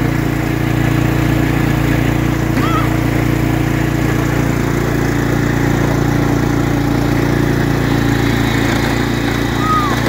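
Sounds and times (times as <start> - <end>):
riding lawn mower engine: 0.0 - 10.0.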